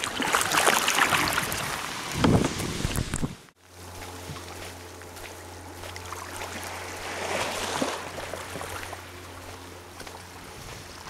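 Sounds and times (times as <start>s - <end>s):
small waves lapping on shore: 0.0s - 11.0s.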